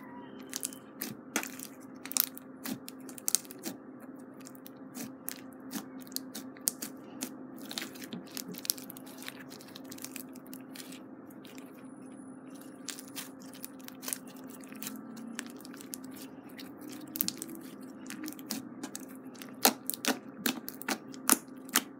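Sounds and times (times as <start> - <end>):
faint steady hum: 0.0 - 21.9
slime crackling and popping: 0.4 - 11.8, 12.5 - 21.9.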